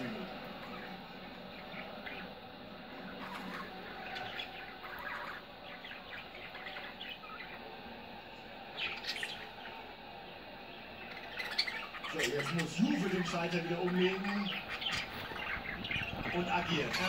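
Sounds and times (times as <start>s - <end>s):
budgerigars chirping: 0.6s - 7.9s, 8.6s - 17.0s.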